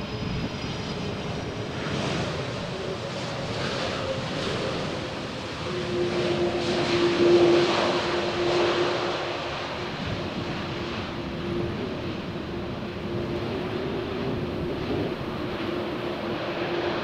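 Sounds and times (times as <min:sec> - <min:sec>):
airliner engine noise: 0:00.0 - 0:17.0.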